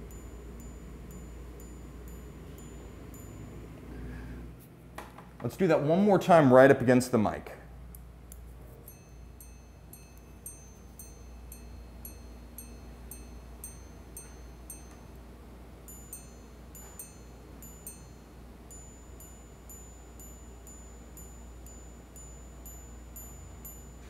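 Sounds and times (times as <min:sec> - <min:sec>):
watch gongs chiming: 0:00.0 - 0:04.4, 0:08.8 - 0:24.0.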